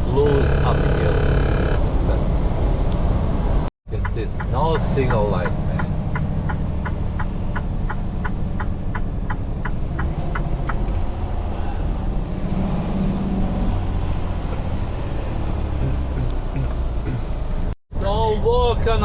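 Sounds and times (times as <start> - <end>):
truck engine droning: 0.0 - 17.8.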